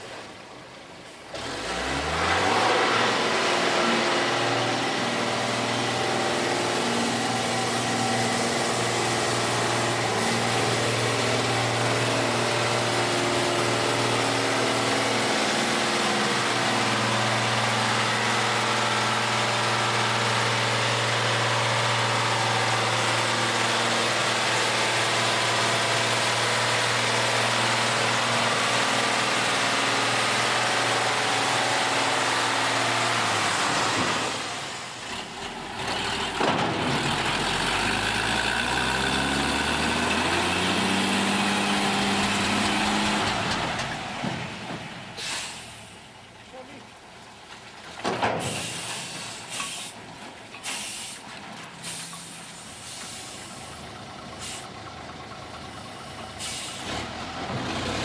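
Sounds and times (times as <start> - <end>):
truck diesel engine running: 2.8 - 46.8, 48.6 - 58.0.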